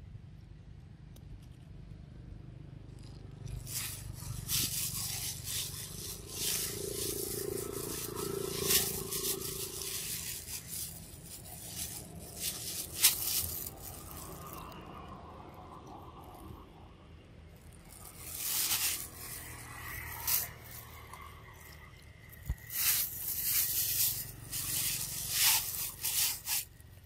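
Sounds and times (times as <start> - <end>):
dry scraping and crackling: 2.9 - 15.1, 17.5 - 27.0.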